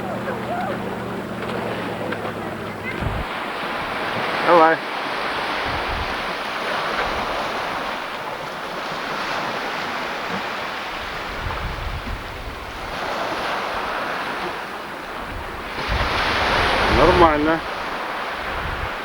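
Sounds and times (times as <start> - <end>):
sea surf washing ashore: 0.0 - 19.0
wind buffeting microphone: 0.0 - 19.0.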